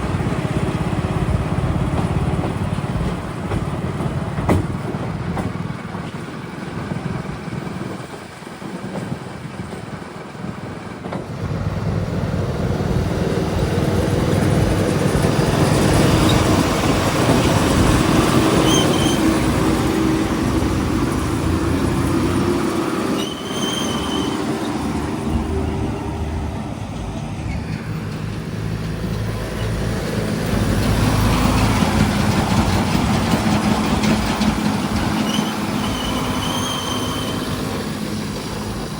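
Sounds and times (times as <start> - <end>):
diesel engines working: 0.0 - 38.9.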